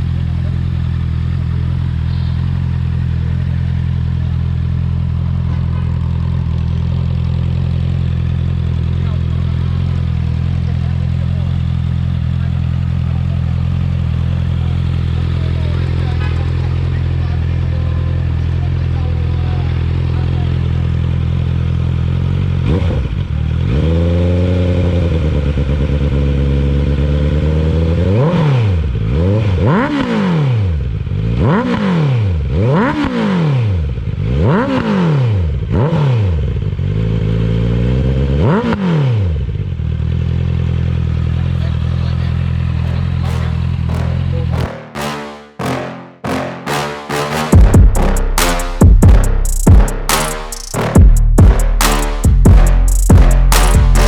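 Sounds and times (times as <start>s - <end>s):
motorcycle engine idling and revving: 0.0s - 44.7s, 47.5s - 54.0s.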